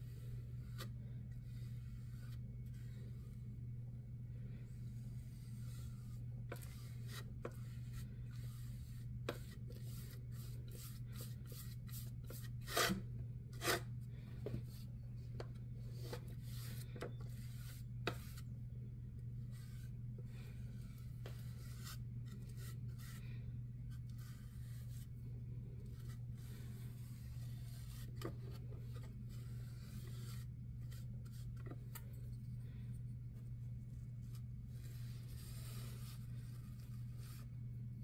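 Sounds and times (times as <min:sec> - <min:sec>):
paintbrush rubbing strokes: 0:00.0 - 0:18.6, 0:19.4 - 0:31.9, 0:32.7 - 0:37.6
steady low hum: 0:00.0 - 0:38.0.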